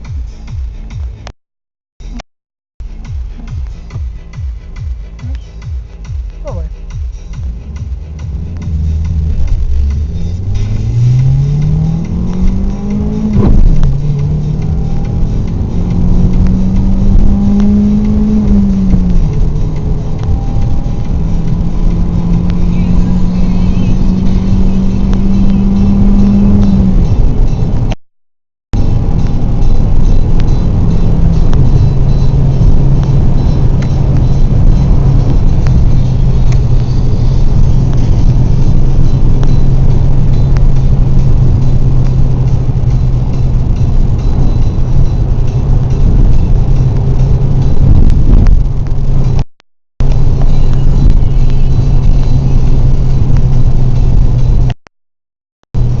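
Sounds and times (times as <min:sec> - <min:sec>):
car engine droning: 0:02.8 - 0:28.0, 0:28.8 - 0:54.8, 0:55.7 - 0:56.0
loud road noise: 0:02.8 - 0:28.0, 0:28.8 - 0:54.8, 0:55.7 - 0:56.0.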